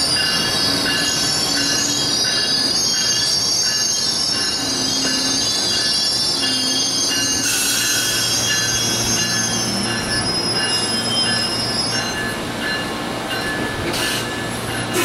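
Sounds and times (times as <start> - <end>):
train wheels squealing: 0.0 - 12.4, 13.5 - 15.0
train rumble: 0.0 - 15.0.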